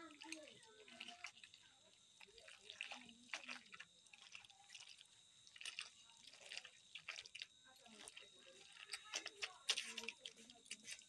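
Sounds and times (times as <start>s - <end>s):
wet squishing of hand kneading: 0.0s - 11.0s.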